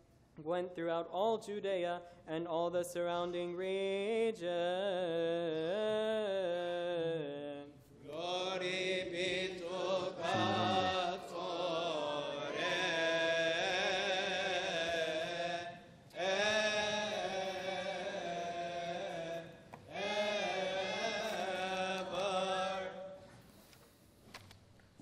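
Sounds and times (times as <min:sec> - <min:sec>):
liturgical chant singing: 0:00.4 - 0:23.4.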